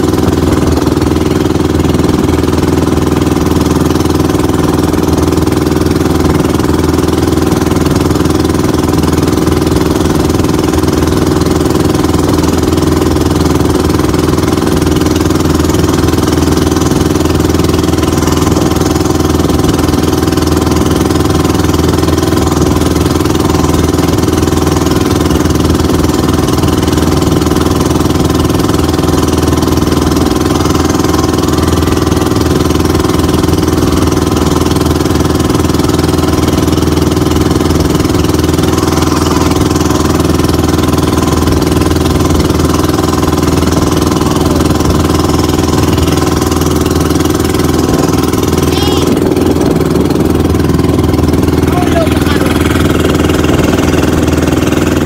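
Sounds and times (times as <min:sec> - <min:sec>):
boat engine running: 0:00.0 - 0:55.0
water rushing past boat: 0:00.0 - 0:55.0.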